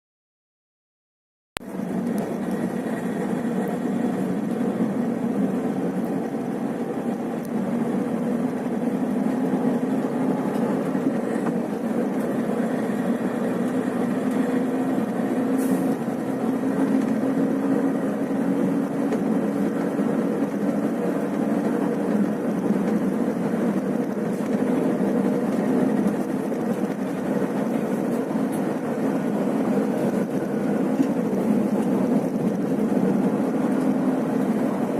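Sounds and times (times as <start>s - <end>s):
bus diesel engine and road noise: 1.6s - 34.9s.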